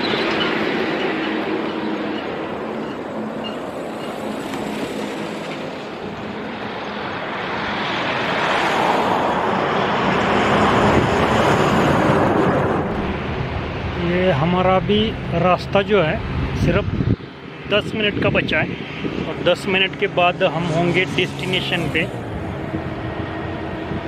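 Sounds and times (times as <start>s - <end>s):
trucks passing on highway: 0.0s - 24.0s.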